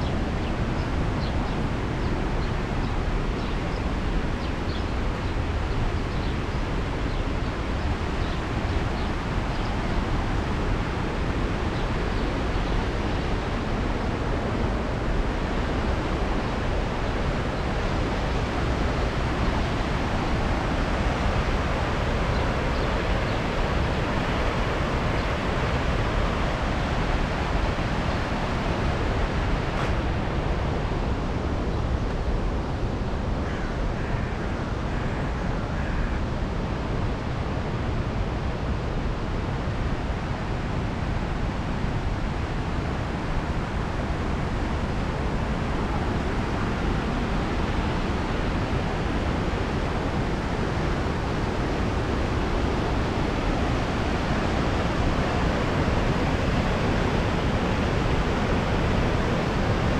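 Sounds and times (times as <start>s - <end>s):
rushing waterfall and river: 0.0s - 59.9s.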